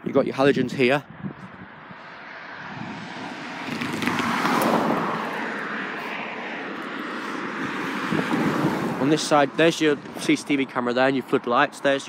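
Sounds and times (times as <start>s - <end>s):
vehicle passing by: 1.1s - 11.3s.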